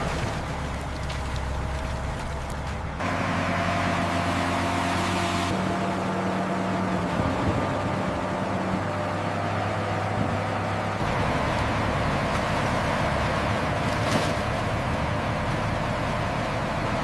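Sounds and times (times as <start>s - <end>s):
heavy machinery engine drone: 0.0s - 17.0s.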